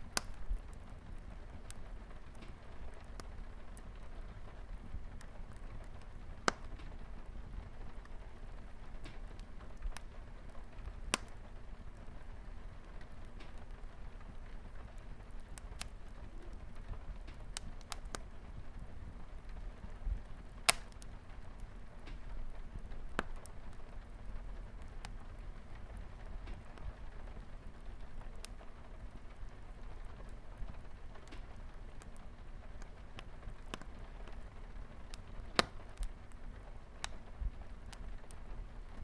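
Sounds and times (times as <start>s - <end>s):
light rain on a window: 0.0s - 39.0s
wood fire crackling: 0.0s - 39.0s.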